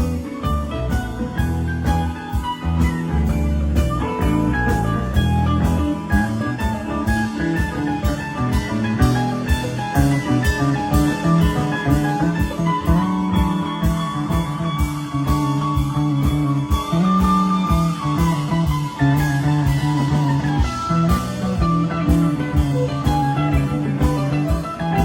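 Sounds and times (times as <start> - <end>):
bass guitar: 0.0 - 25.0
drum kit beat: 0.0 - 25.0
electric guitar lead: 0.0 - 25.0.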